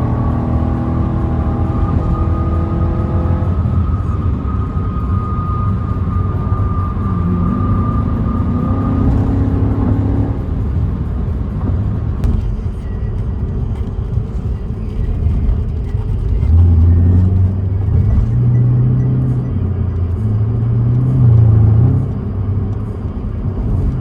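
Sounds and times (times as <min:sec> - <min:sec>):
car engine and exhaust rumbling: 0:00.0 - 0:24.0.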